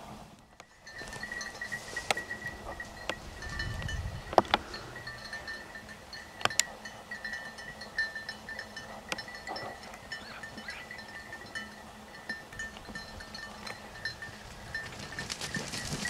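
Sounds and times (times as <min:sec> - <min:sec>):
small bells ringing: 0:00.7 - 0:16.0.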